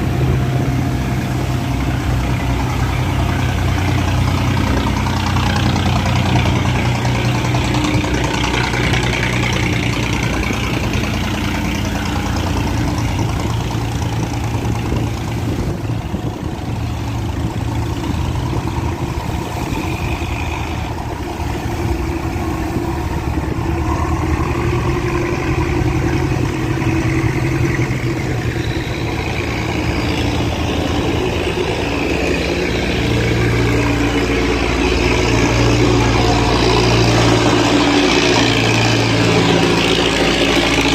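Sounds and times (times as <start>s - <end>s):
boat engines running: 0.0s - 40.9s.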